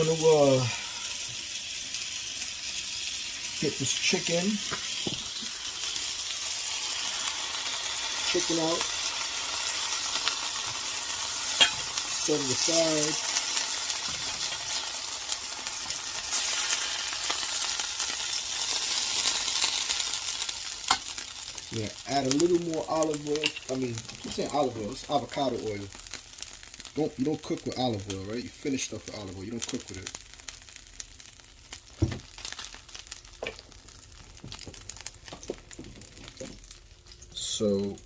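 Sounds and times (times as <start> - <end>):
frying pan sizzling: 0.0 - 38.0.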